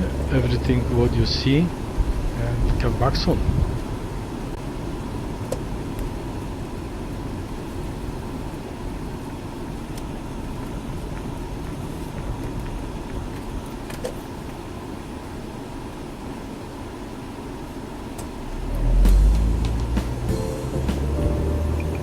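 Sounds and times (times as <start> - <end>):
faint constant hum: 0.0 - 18.6
car engine and road rumble: 0.0 - 22.0.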